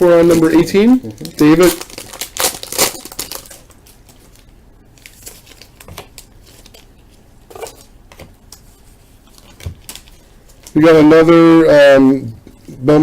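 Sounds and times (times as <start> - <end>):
foil wrapper crinkling: 0.2 - 10.8.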